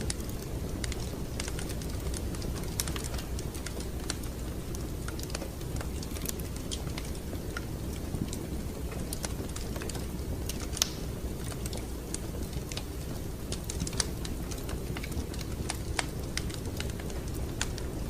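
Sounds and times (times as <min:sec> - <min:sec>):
low rumble of burning: 0:00.0 - 0:18.0
wood fire crackling and popping: 0:00.0 - 0:18.0.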